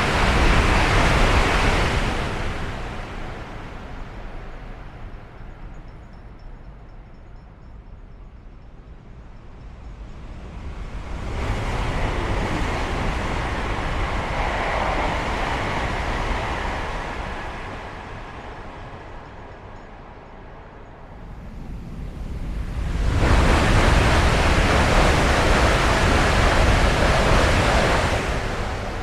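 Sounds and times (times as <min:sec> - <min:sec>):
high-speed train rushing past: 0:00.0 - 0:05.4, 0:10.3 - 0:29.0.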